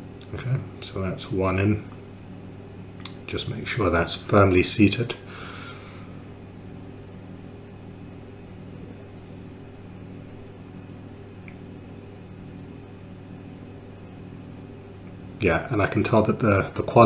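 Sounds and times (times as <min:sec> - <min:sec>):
steady low hum with hiss: 0:00.0 - 0:17.0.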